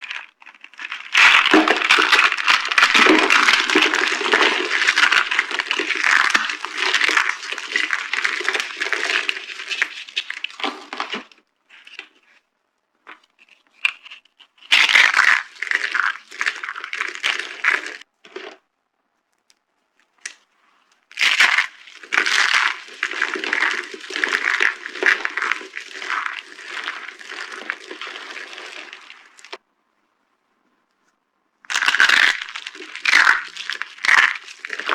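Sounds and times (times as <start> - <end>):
dry soap crunching by hand: 0.0 - 12.3, 13.2 - 18.6, 21.1 - 29.6, 31.7 - 34.9.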